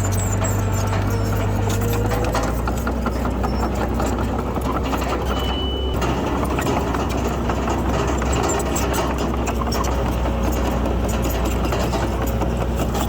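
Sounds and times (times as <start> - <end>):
diesel engine running: 0.0 - 13.0
machinery rattling and clanking: 0.0 - 13.0.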